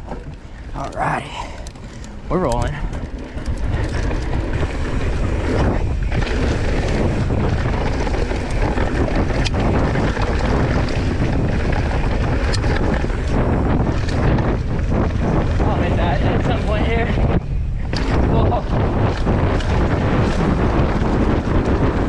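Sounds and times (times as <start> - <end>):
tyres rolling on dirt trail: 0.0 - 22.0
wind rushing over microphone: 0.0 - 22.0.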